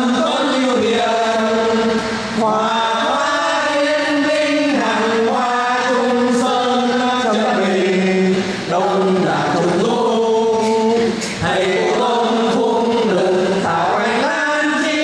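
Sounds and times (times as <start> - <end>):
group of voices chanting in unison: 0.0 - 15.0.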